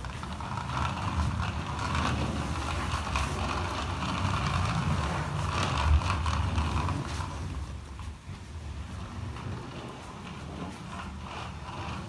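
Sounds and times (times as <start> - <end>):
toy truck rolling on wooden floor: 0.0 - 12.0.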